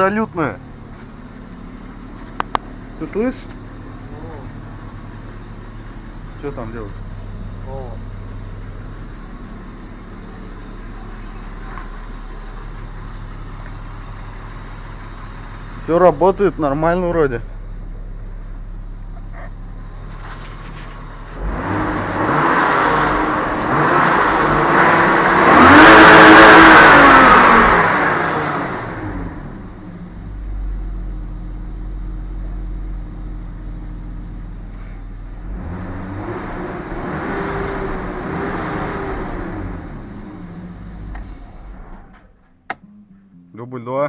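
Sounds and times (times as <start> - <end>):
car engine revving: 0.0 - 34.4, 35.2 - 42.4.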